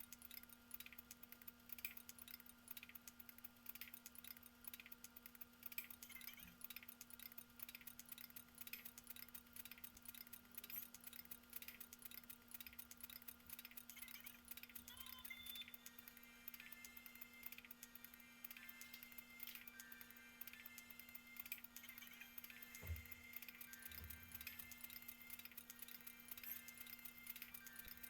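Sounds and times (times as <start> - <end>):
faint rapid irregular clicking: 0.0 - 28.0.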